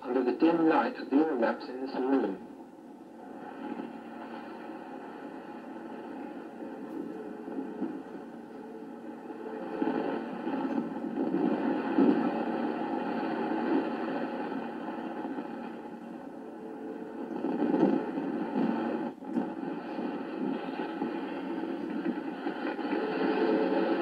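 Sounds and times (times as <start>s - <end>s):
wind on deck: 3.2s - 24.0s.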